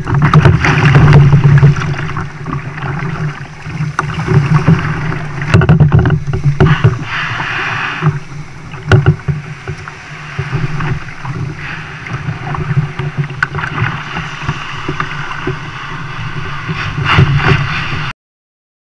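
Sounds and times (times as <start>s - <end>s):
kayak hull knocks: 0.0s - 18.0s
waves splashing around hull: 0.0s - 18.1s.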